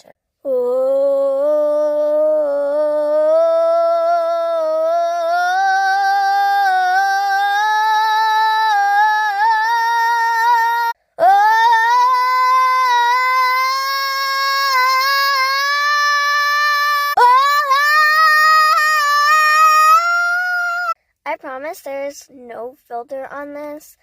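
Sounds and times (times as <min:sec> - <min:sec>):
woman singing a long held note: 0:00.4 - 0:20.9.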